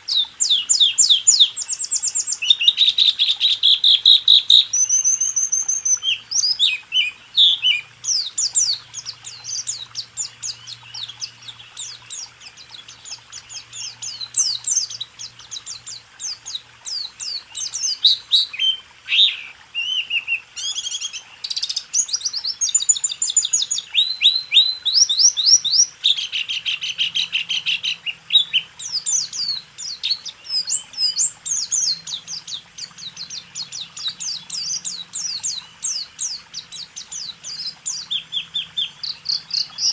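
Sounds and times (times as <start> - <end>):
songbird singing rapid chirps: 0.0 - 39.9.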